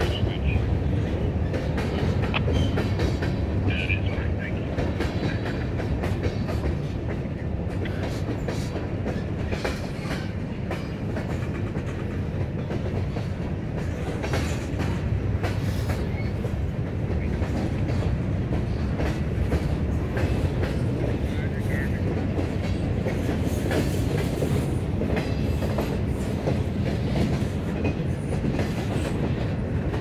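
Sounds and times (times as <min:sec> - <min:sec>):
steel wheels rumbling on rail: 0:00.0 - 0:30.0.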